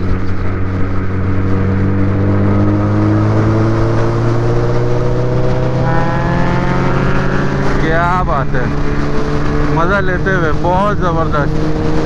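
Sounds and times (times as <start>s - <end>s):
motorcycle engine under throttle: 0.0s - 12.0s
wind rushing: 0.0s - 12.0s.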